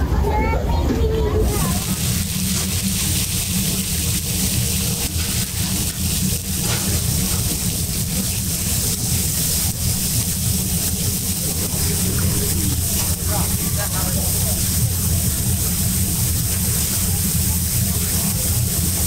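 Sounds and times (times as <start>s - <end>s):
cooking station roar: 0.0s - 19.0s
meat sizzling on griddle: 1.4s - 19.0s.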